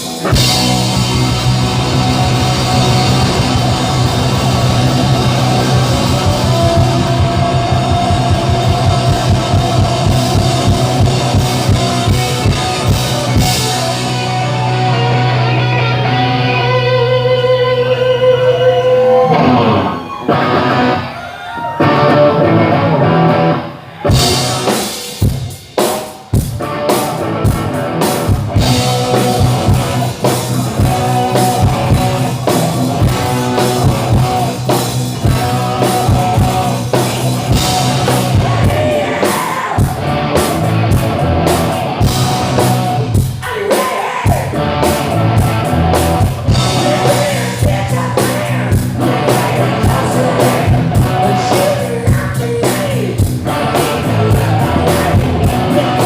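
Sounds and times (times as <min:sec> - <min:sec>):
drum kit: 0:00.0 - 0:17.2, 0:21.8 - 0:56.0
bass guitar: 0:00.0 - 0:56.0
electric guitars: 0:00.0 - 0:56.0
person singing: 0:02.2 - 0:24.8, 0:28.7 - 0:40.5, 0:42.3 - 0:45.7, 0:46.5 - 0:56.0.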